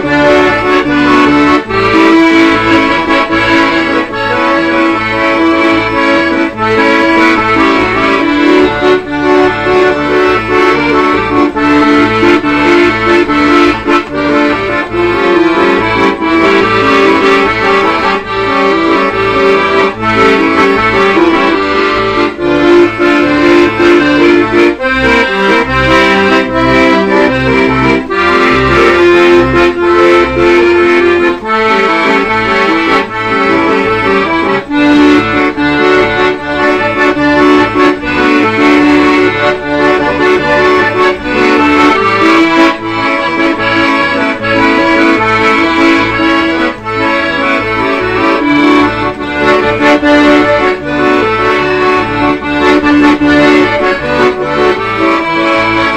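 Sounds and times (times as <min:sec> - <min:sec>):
sustained melody notes: 0:00.0 - 0:55.9.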